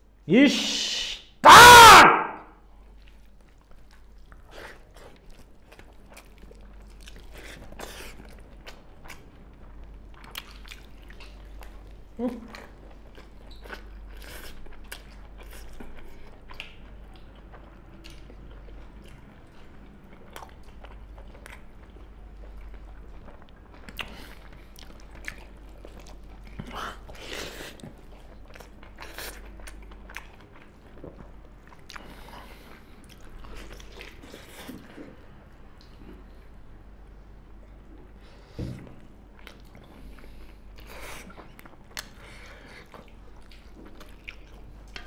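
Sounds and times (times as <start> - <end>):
people chewing food: 2.6 - 45.0
eating smacks and clicks: 3.0 - 35.0, 40.7 - 45.0.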